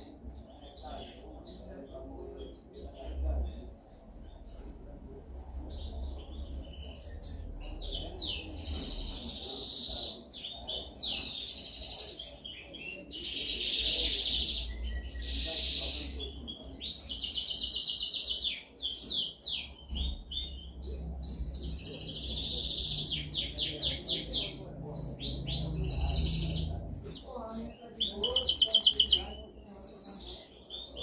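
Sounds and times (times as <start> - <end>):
canary singing trills: 5.8 - 31.0.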